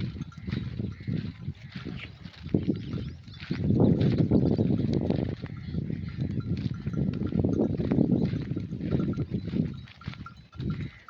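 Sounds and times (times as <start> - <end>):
sheep bells clanking: 0.0 - 11.0.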